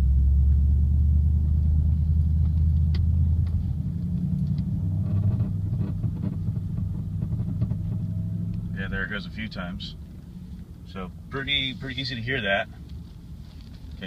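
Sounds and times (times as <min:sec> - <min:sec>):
low buzzing drone in car cabin: 0:00.0 - 0:14.0.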